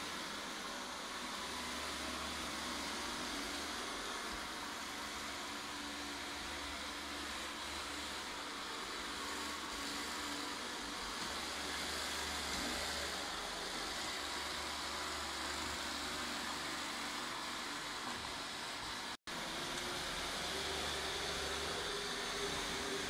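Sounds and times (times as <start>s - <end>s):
robot vacuum cleaner running: 0.0s - 23.0s.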